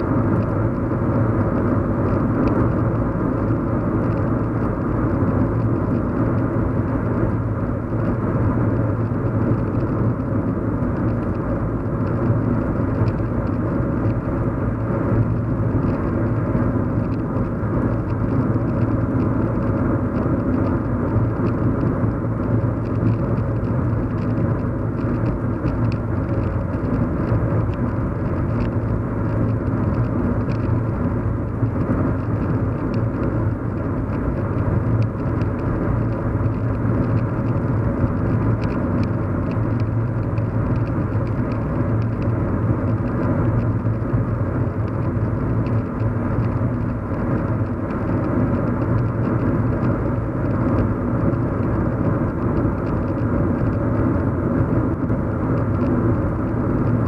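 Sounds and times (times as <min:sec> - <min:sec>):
car cabin road and engine hum: 0:00.0 - 0:57.0.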